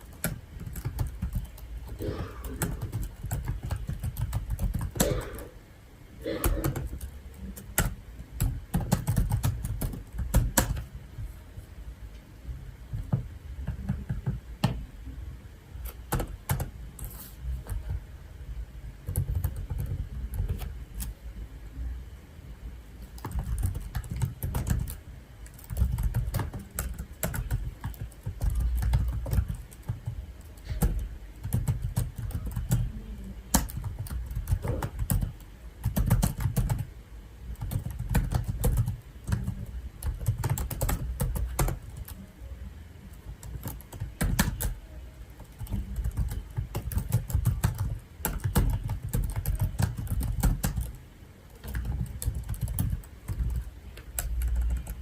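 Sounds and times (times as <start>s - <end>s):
computer keyboard typing: 0.0s - 5.5s, 6.2s - 10.9s, 12.9s - 14.8s, 15.8s - 16.7s, 19.0s - 21.2s, 23.0s - 36.9s, 37.5s - 42.2s, 43.1s - 55.0s.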